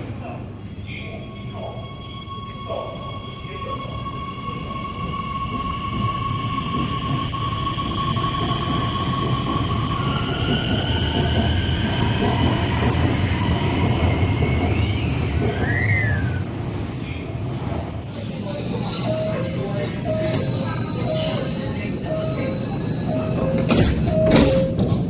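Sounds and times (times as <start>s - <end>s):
train wheels rumbling on rail: 4.0s - 25.0s.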